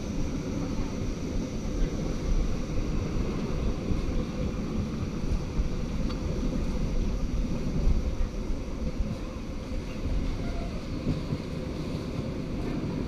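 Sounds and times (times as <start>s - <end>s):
railway carriage rumbling on track: 0.0s - 13.0s
wind buffeting microphone: 0.0s - 13.0s.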